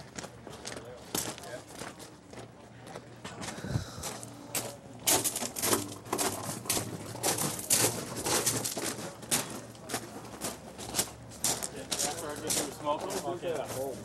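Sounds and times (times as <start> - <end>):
footsteps on gravel: 0.0 - 14.0.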